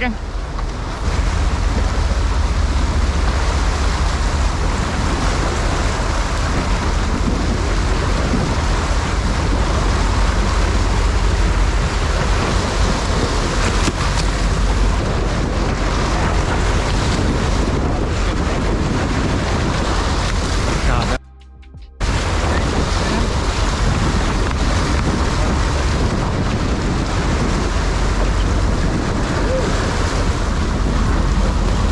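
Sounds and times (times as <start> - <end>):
sea water: 0.0 - 21.2, 22.0 - 31.9
wind on microphone: 0.0 - 21.2, 21.8 - 31.9
boat engine low rumble: 0.0 - 31.9.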